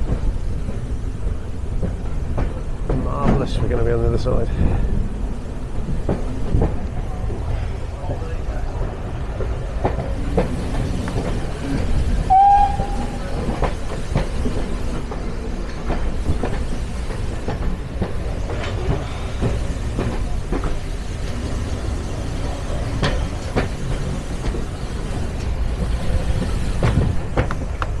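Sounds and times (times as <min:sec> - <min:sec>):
train carriages rumbling on track: 0:00.0 - 0:28.0
wheels clicking over rail joints: 0:00.0 - 0:28.0.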